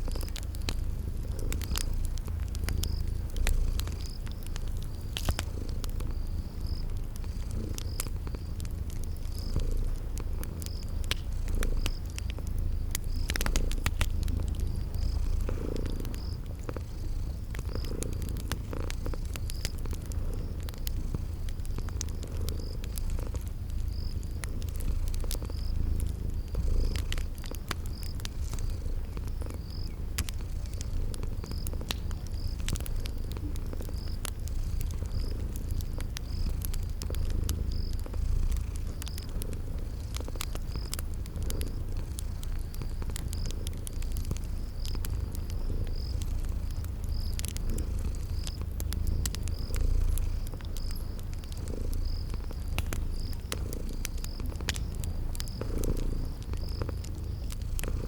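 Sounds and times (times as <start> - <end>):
cat purring: 0.0 - 58.0
crickets chirping: 0.0 - 58.0
wood fire crackling: 0.0 - 58.0.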